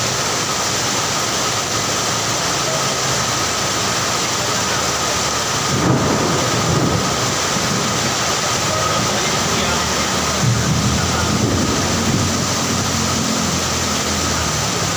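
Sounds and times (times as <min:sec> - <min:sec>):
heavy rain pouring: 0:00.0 - 0:14.9.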